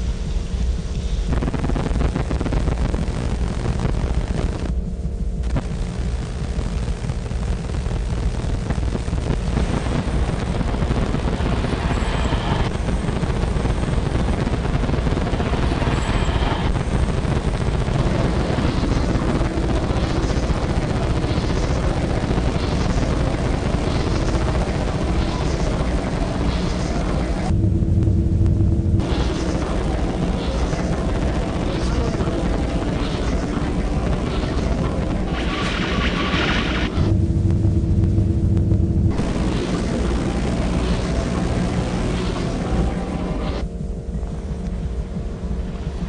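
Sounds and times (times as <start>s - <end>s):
loud dense rumbling: 0.0s - 46.0s.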